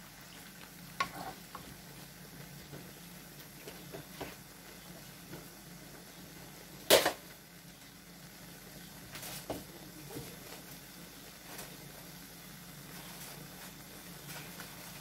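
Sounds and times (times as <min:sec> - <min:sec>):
chicken frying quietly: 0:00.0 - 0:15.0.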